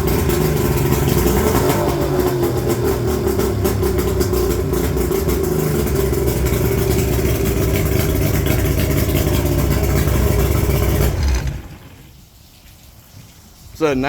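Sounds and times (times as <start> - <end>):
outboard motor running: 0.0 - 12.2.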